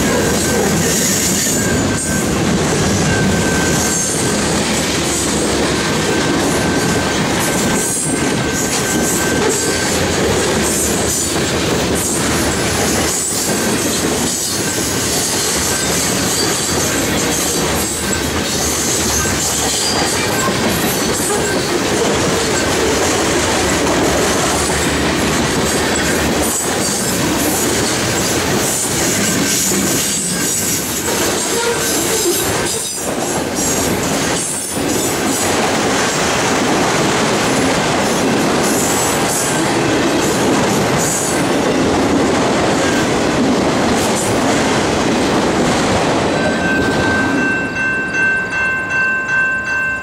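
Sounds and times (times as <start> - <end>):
freight cars rolling on rails: 0.0 - 50.0.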